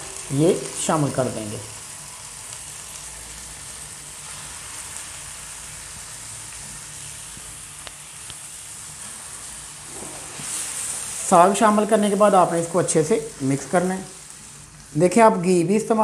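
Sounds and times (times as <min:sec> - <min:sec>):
hot oil sizzling in a pan: 0:00.0 - 0:16.0.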